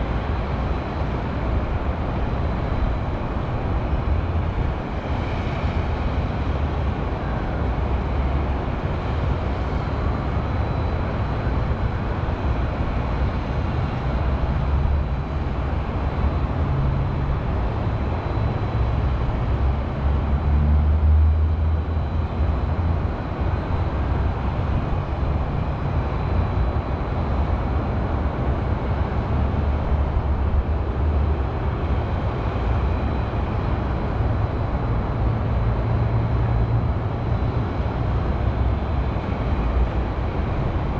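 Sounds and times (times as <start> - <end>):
highway traffic rumble: 0.0 - 40.9.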